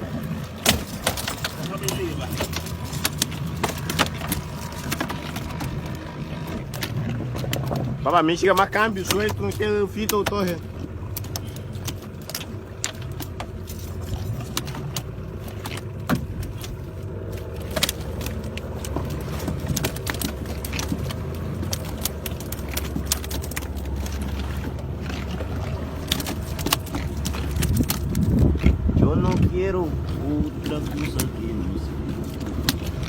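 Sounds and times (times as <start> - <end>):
boat engine humming: 0.0 - 33.0
sharp clicks and knocks: 0.6 - 33.0.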